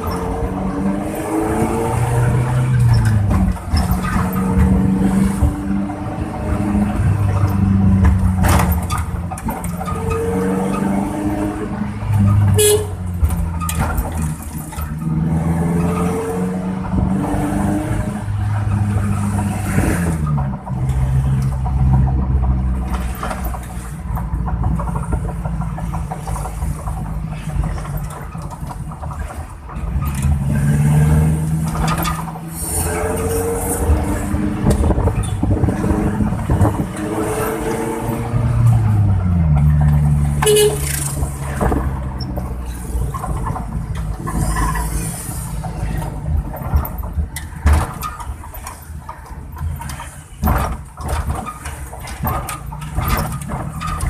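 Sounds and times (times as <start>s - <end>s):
deep growling vehicle sound: 0.0s - 54.0s.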